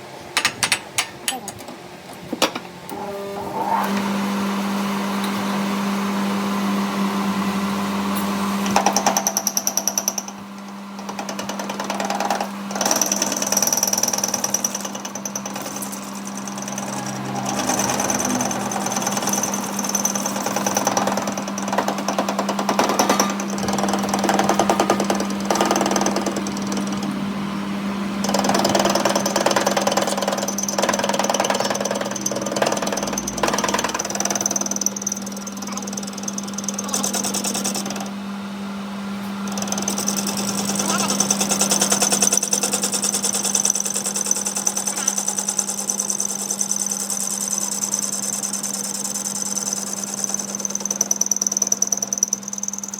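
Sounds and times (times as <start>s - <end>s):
workshop machinery running: 0.0s - 52.9s.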